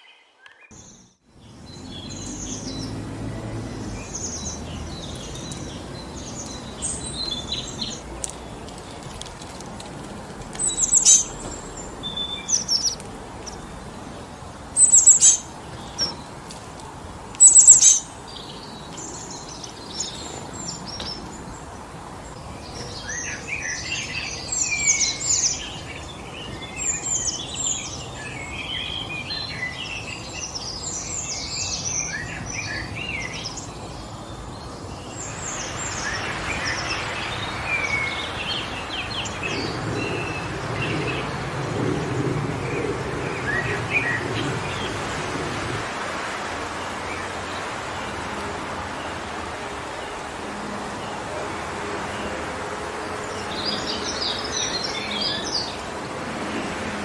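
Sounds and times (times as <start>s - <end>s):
songbirds calling: 0.0s - 57.0s
wind through forest trees: 0.0s - 57.0s.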